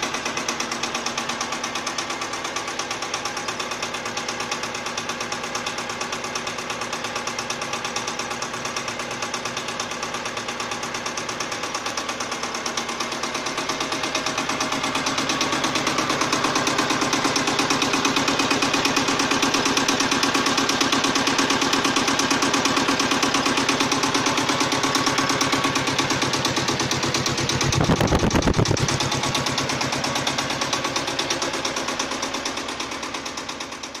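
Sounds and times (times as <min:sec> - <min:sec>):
tractor engine clattering: 0:00.0 - 0:34.0.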